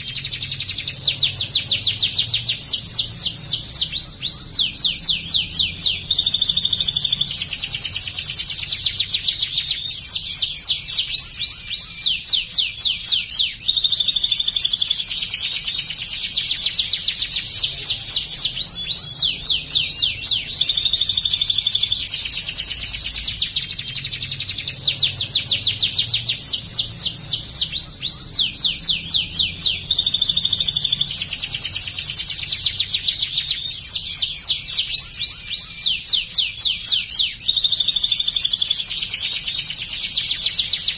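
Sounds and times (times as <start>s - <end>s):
canary singing in fast trills: 0.0s - 40.9s.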